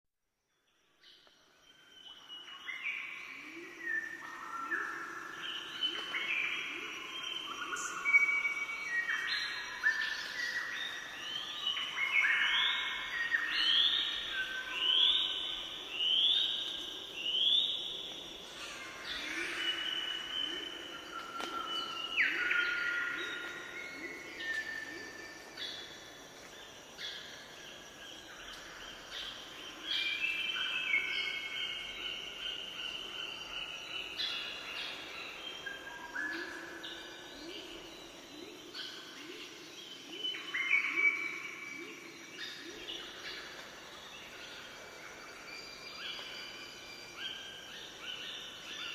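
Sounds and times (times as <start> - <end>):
birds singing: 1.8 - 48.9.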